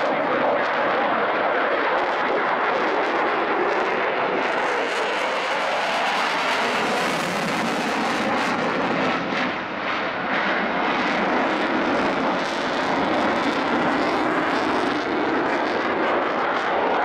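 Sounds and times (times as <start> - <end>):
loud jet engine rush: 0.0 - 17.0.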